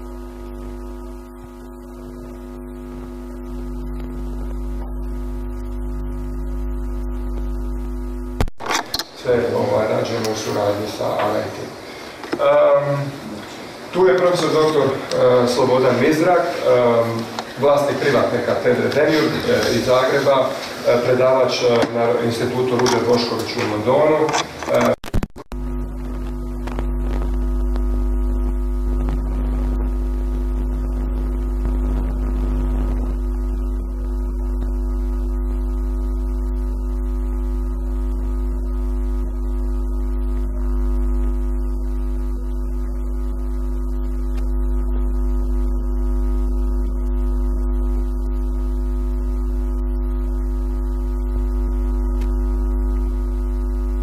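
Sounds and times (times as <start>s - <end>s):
hum of held tones: 0.0s - 54.0s.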